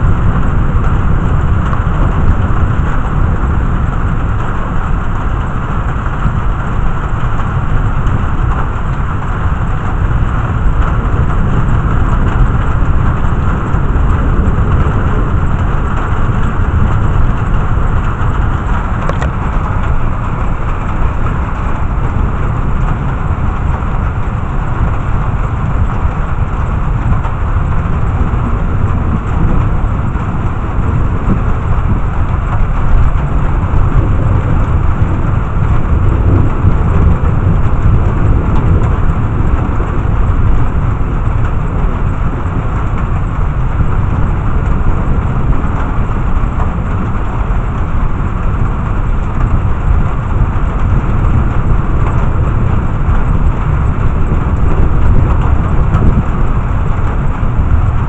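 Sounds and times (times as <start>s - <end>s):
deep thunder rumble: 0.0s - 58.0s
heavy rain: 0.0s - 58.0s.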